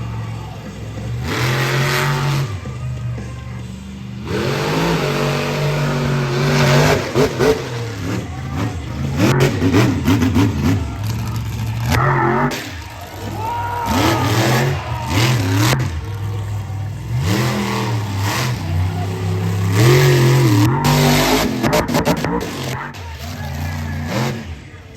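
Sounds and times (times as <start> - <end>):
monster truck engine revving: 0.0 - 24.9.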